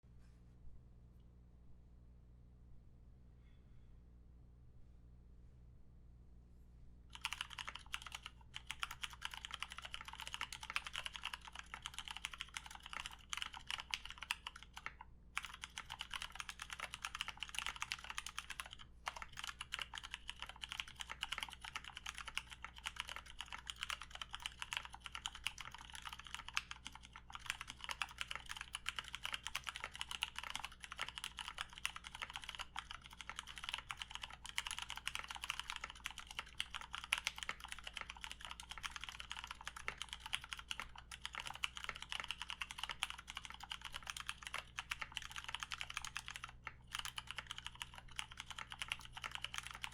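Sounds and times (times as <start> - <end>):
fast typing on mechanical keyboard: 7.1 - 49.9.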